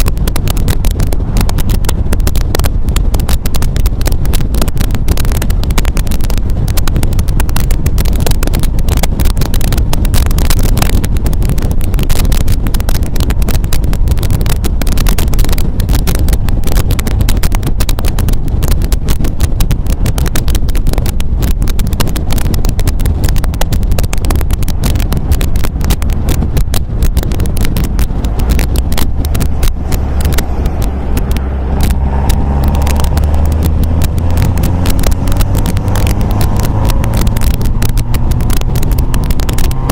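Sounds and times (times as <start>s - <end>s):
car engine running: 0.0s - 39.9s
wind buffeting microphone: 0.0s - 39.9s.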